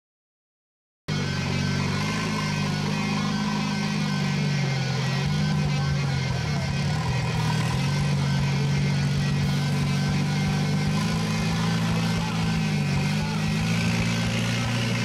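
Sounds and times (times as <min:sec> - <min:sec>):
engine running at low revs: 0:01.1 - 0:15.0.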